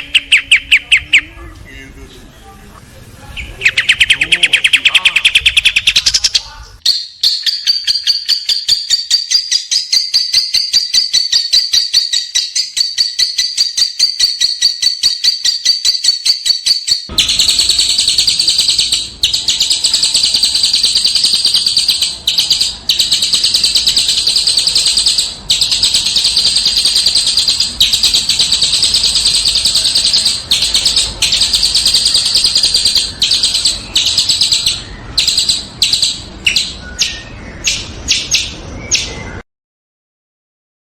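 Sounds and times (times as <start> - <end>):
songbird trilling: 0.0 - 1.4, 3.4 - 39.4.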